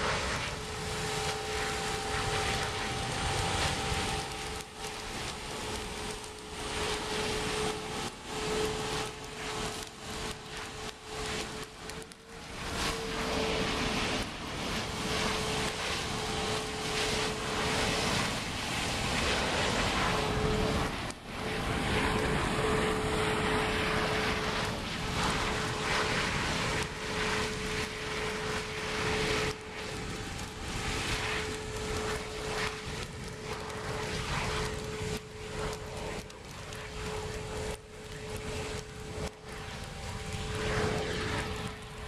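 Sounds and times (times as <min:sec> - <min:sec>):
burner flame rushing: 0:00.0 - 0:42.0
steady hum: 0:00.0 - 0:42.0.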